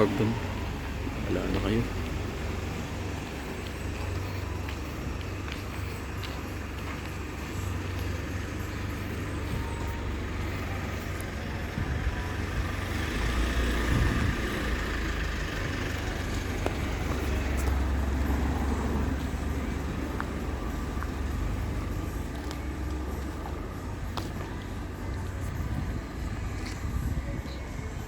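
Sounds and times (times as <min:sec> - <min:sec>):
motor vehicle rumble: 0:00.0 - 0:28.0.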